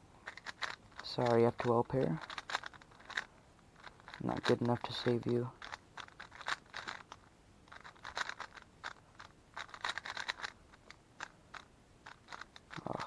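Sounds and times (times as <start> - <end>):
puzzle cube plastic clicks: 0.2 - 13.0.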